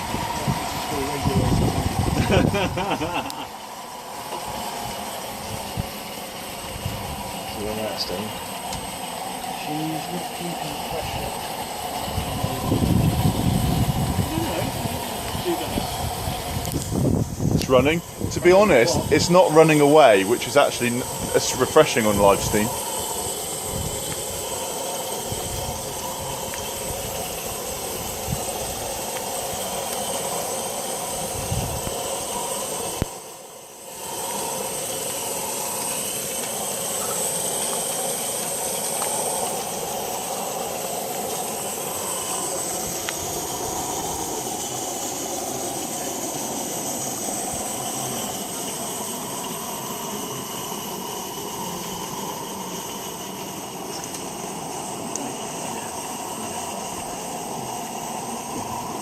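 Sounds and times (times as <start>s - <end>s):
steam hissing: 0.0s - 59.0s
steam locomotive running: 0.0s - 59.0s.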